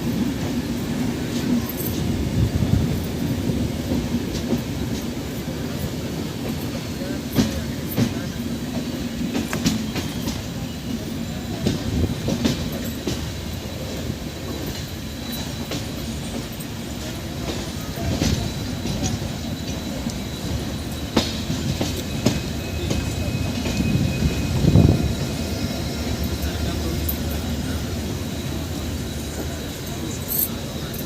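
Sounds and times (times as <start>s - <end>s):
train coaches rumbling: 0.0s - 31.0s.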